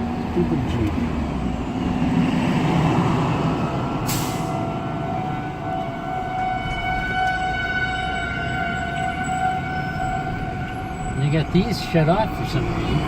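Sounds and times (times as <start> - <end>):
low vehicle rumble: 0.0 - 13.0
outdoor warning siren: 1.6 - 13.0.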